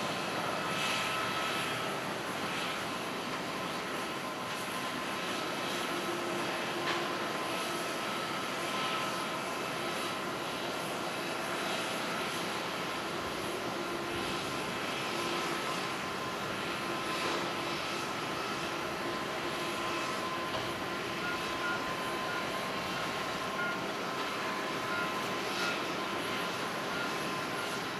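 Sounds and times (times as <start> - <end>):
faint engine whine: 0.0 - 27.9
jet engines running: 0.0 - 27.9.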